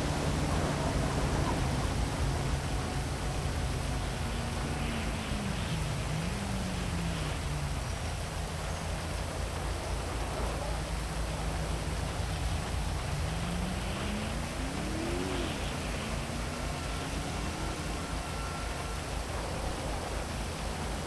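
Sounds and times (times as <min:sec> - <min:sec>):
heavy rain hissing: 0:00.0 - 0:21.0
traffic engine hum: 0:00.0 - 0:21.0.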